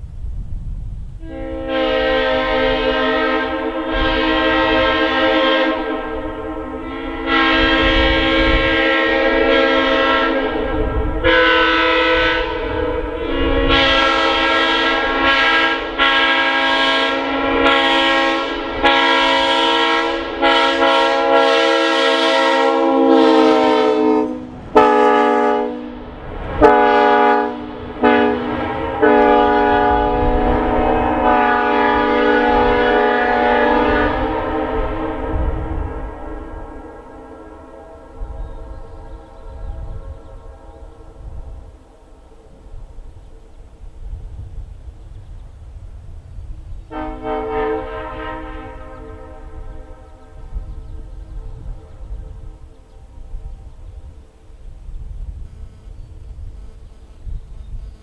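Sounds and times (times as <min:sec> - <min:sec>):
locomotive air horn blasts: 0:01.2 - 0:42.2, 0:46.9 - 0:53.5.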